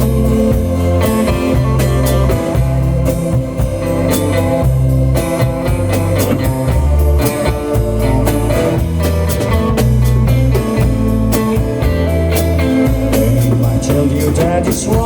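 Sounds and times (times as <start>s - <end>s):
guitar: 0.0s - 15.0s
rock band playing: 0.0s - 15.0s.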